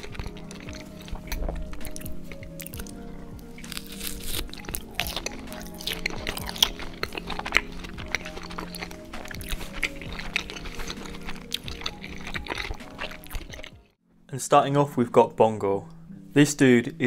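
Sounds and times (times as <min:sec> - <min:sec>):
person chewing crunchy food: 0:00.0 - 0:14.0
background music: 0:00.0 - 0:17.0.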